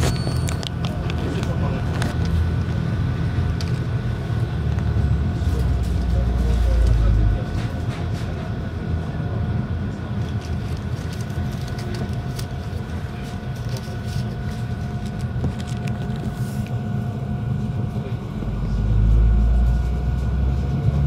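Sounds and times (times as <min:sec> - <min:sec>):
railcar low running rumble: 0:00.0 - 0:21.0
steady whine: 0:00.0 - 0:21.0.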